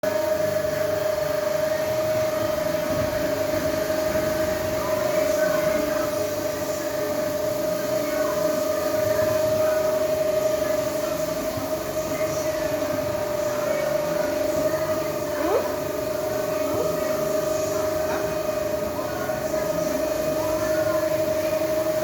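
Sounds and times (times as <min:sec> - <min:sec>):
floor-cleaning machine running: 0:00.0 - 0:22.0.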